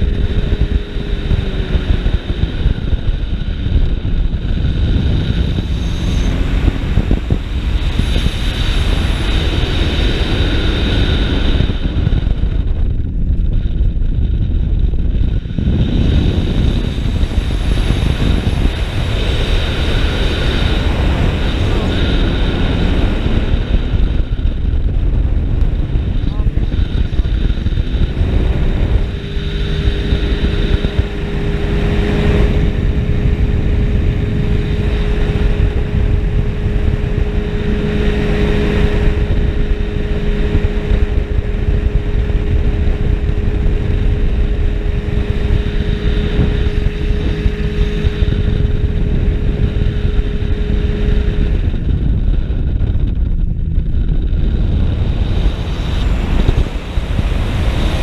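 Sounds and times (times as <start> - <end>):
aircraft engine and propeller droning: 0.0 - 58.0
wind rumble on microphone: 0.0 - 58.0.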